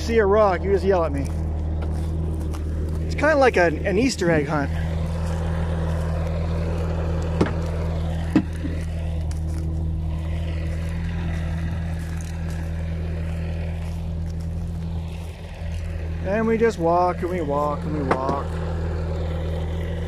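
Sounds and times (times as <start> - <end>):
engine running low hum: 0.0 - 20.0.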